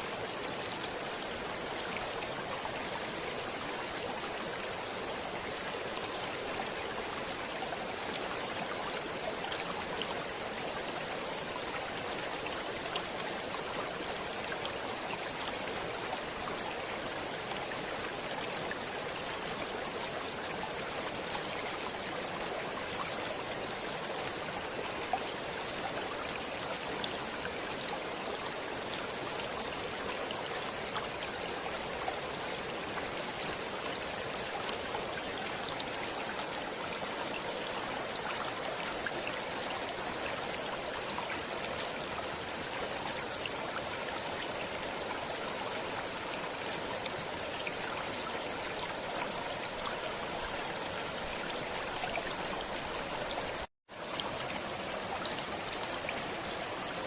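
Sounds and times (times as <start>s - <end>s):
stream running over rocks: 0.0s - 57.0s
water drips and trickles: 0.0s - 57.0s.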